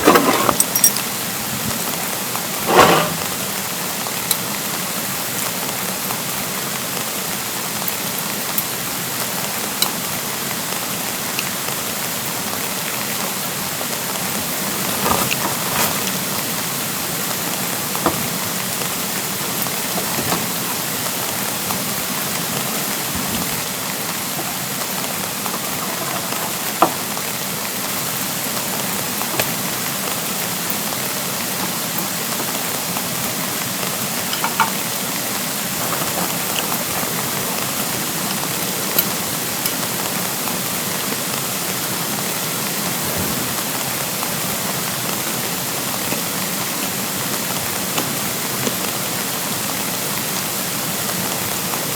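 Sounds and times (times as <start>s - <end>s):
rain falling: 0.0s - 51.9s.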